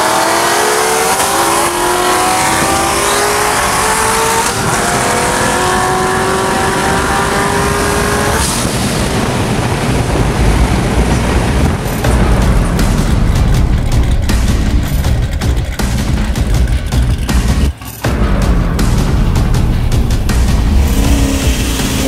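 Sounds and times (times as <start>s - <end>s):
car engines at full throttle: 0.0s - 22.0s
wind and road roar: 0.0s - 22.0s.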